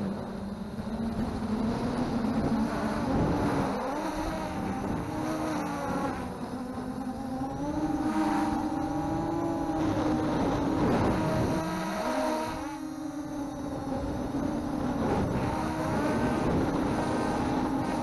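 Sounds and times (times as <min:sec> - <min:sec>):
quadcopter motors whining: 0:00.0 - 0:18.0
wind rumble on microphone: 0:00.0 - 0:18.0.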